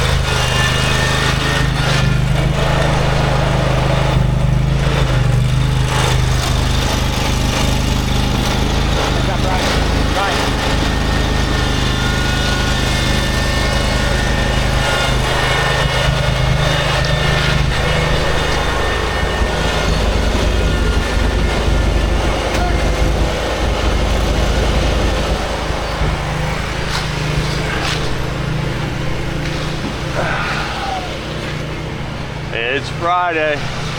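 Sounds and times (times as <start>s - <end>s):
small gasoline engine running: 0.0s - 33.9s.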